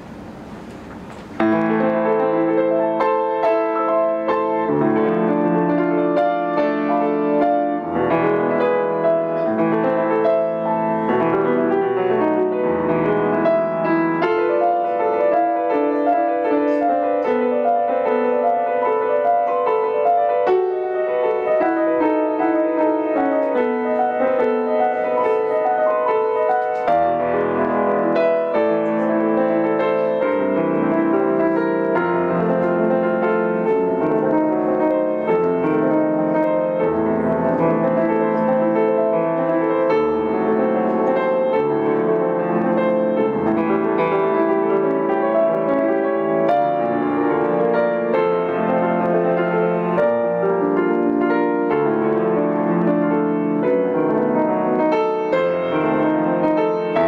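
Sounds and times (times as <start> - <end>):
solo grand piano: 0.0 - 57.0.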